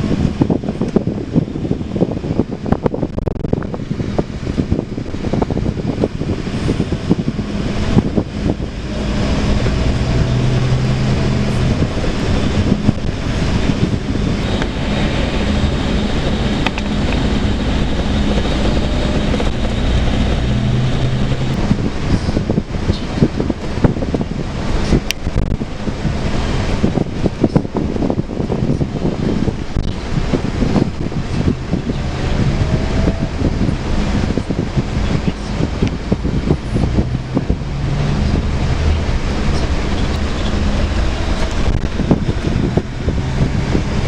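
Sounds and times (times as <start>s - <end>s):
bus engine drone: 0.0s - 44.0s
road rumble: 0.0s - 44.0s
wind noise: 0.0s - 44.0s.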